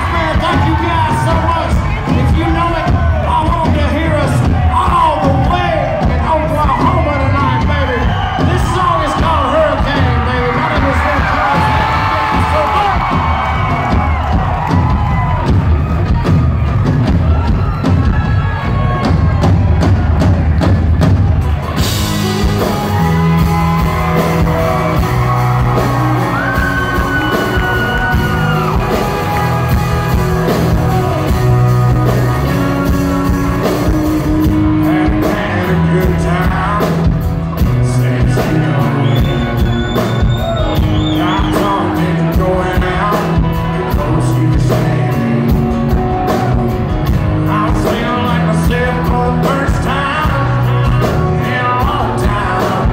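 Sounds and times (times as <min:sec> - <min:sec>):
live country band playing: 0:00.0 - 0:52.9.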